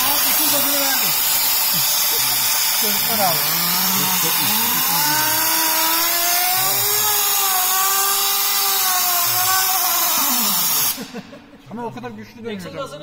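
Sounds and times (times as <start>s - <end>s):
turbine wheels whining: 0.0s - 11.2s
compressed air hissing: 0.0s - 11.3s.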